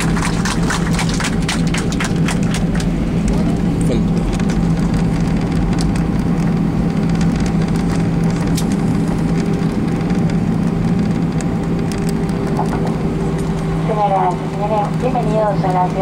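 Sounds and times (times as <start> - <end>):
airliner engines rumbling: 0.0 - 16.0
low cabin hum: 0.0 - 16.0.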